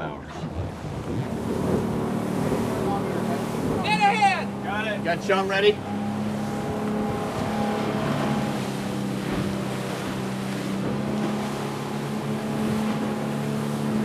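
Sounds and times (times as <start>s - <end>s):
boat engine running: 0.0s - 14.0s
water rushing past hull: 0.0s - 14.0s
wind: 0.0s - 14.0s.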